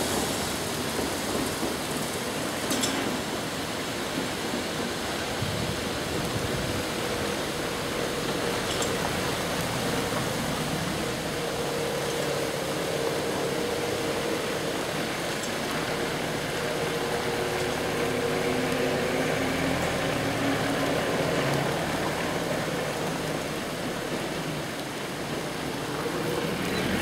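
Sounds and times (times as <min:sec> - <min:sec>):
distant electric tram hum: 0:00.0 - 0:27.0.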